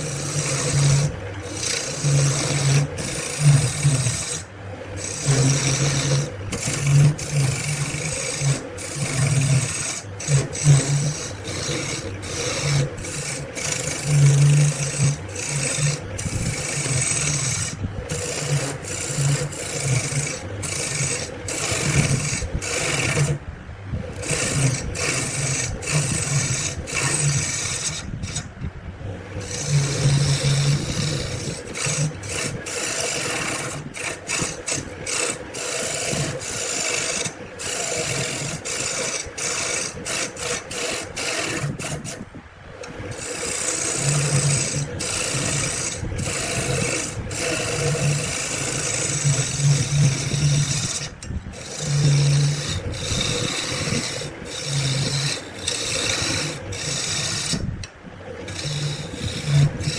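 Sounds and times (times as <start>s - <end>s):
rasp scraping wood: 0.0s - 28.6s, 29.2s - 59.9s.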